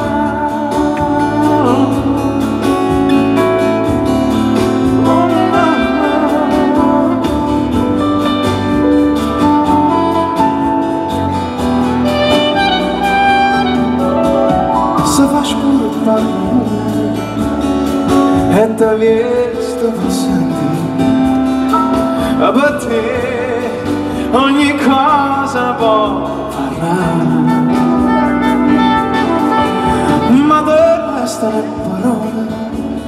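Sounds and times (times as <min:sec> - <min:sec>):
live band playing instrumental: 0:00.0 - 0:33.0.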